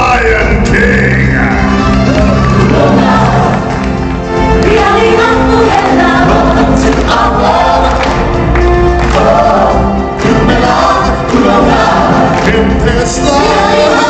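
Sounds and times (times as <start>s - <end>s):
choir singing upbeat song: 0.0s - 14.0s
live music with steady bass: 0.0s - 14.0s.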